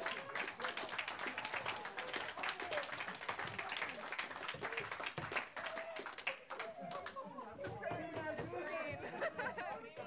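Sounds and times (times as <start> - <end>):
people applauding: 0.0 - 9.0.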